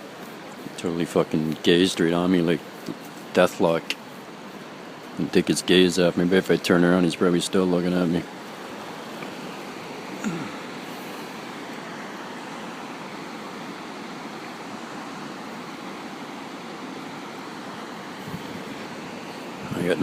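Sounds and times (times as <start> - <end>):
outdoor rushing background noise: 0.0 - 20.0.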